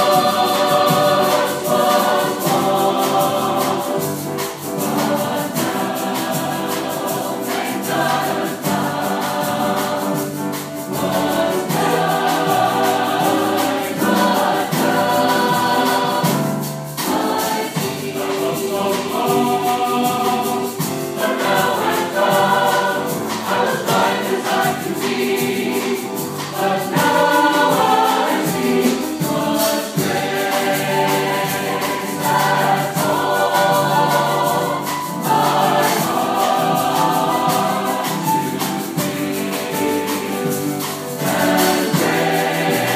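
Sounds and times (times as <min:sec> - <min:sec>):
mixed choir singing in harmony: 0:00.0 - 0:42.9
piano accompaniment: 0:00.0 - 0:42.9.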